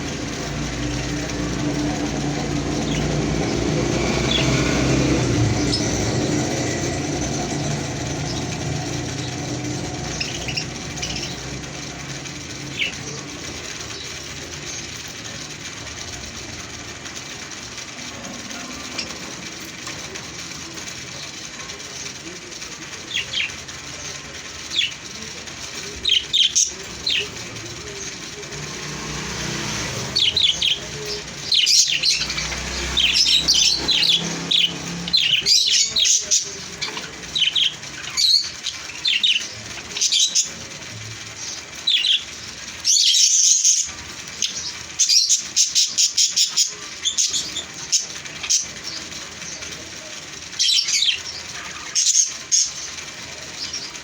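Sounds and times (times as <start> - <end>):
parrots chirping: 0.0 - 54.0.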